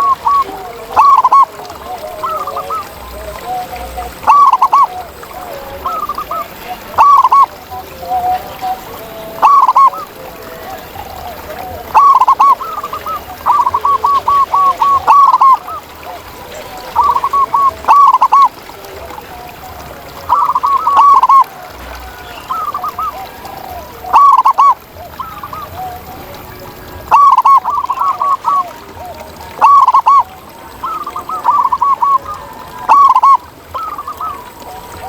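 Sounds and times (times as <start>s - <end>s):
doves cooing: 0.0s - 35.0s.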